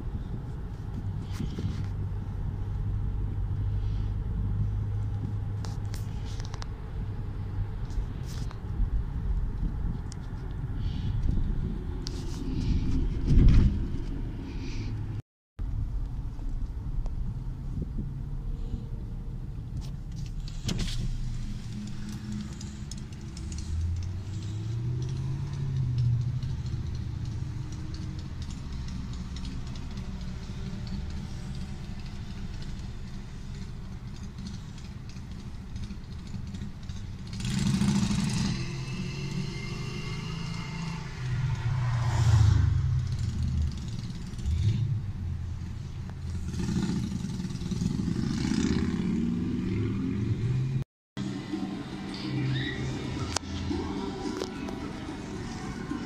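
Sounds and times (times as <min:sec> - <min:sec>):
vehicles accelerating and passing: 0:00.0 - 0:56.0.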